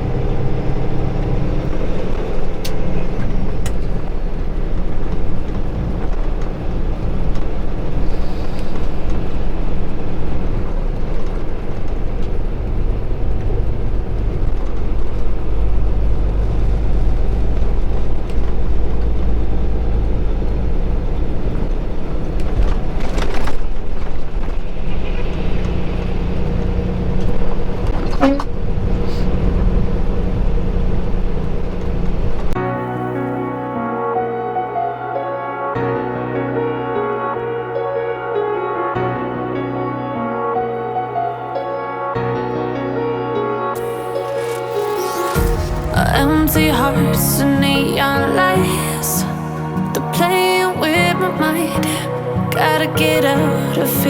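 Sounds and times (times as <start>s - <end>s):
truck engine rumble: 0.0s - 33.9s, 43.9s - 54.0s
road noise: 0.0s - 35.8s, 40.1s - 54.0s.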